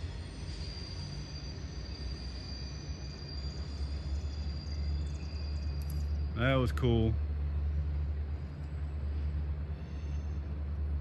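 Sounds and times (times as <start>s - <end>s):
diesel freight train rumbling: 0.0s - 11.0s.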